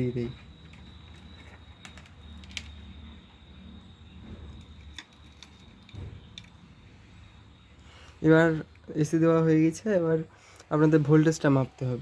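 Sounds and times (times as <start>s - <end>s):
thin high whine: 0.0s - 10.3s.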